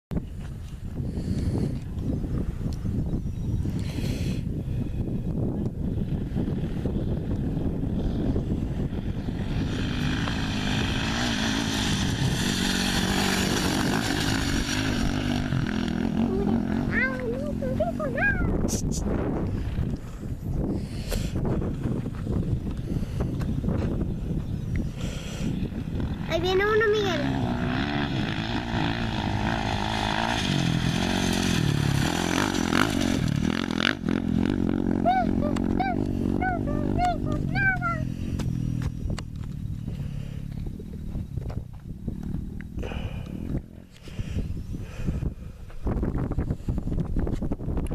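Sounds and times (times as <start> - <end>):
off-road motorcycle engine: 0.1 - 47.9
wind noise on microphone: 0.1 - 47.9.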